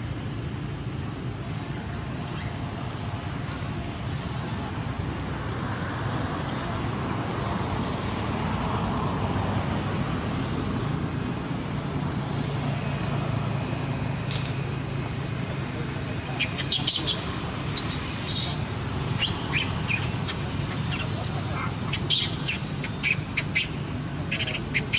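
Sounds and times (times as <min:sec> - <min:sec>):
outdoor background rumble and hiss: 0:00.0 - 0:24.9.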